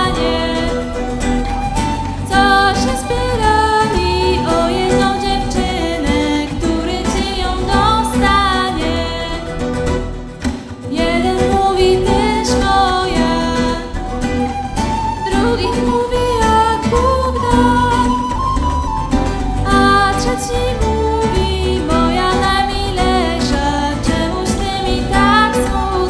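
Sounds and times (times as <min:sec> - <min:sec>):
woman singing: 0:00.0 - 0:10.1, 0:10.8 - 0:26.0
acoustic guitars: 0:00.0 - 0:26.0.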